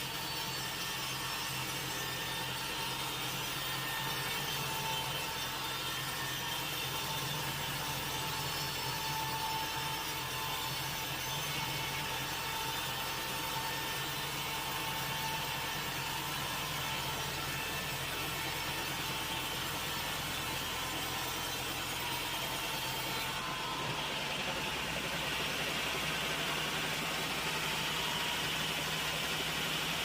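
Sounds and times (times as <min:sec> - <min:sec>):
sawmill saw cutting wood: 0:00.0 - 0:30.0.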